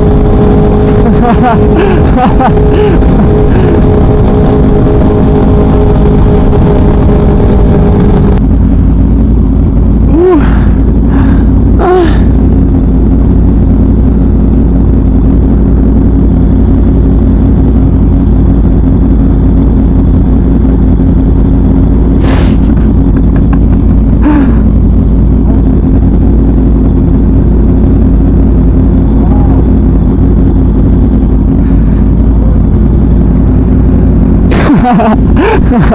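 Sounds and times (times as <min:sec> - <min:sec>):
motorcycle engine revving loud: 0:00.0 - 0:35.9.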